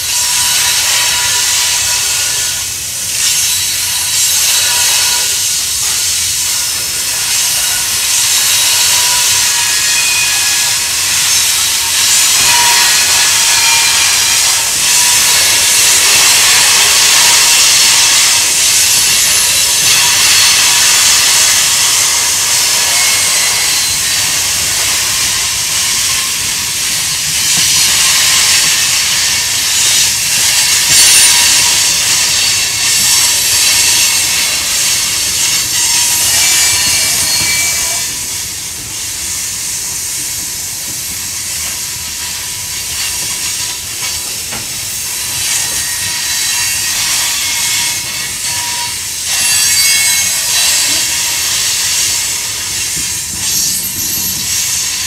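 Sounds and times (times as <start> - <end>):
wheel squeals: 0.0 - 39.4, 40.5 - 55.0
train wheels hissing on rails: 0.0 - 55.0.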